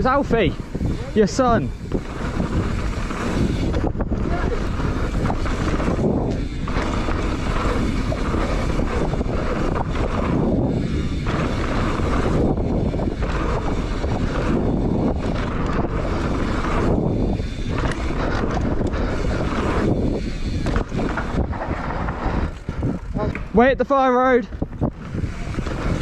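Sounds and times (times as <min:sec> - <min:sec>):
tyres rumbling on dirt trail: 0:00.0 - 0:26.0
wind buffeting microphone: 0:00.0 - 0:26.0.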